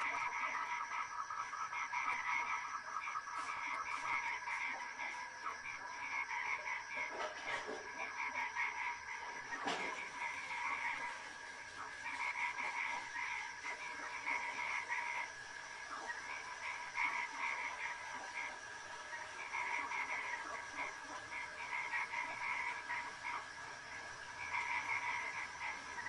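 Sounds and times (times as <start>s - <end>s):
frogs croaking: 0.0s - 26.0s
steady high hum: 0.0s - 26.0s.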